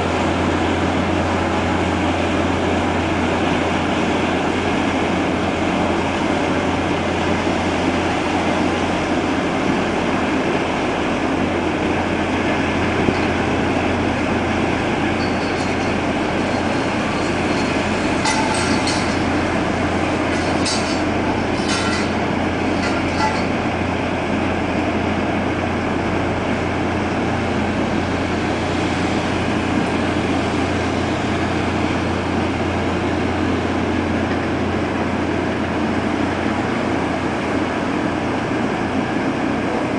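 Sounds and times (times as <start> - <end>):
ship engines rumbling: 0.0 - 39.9.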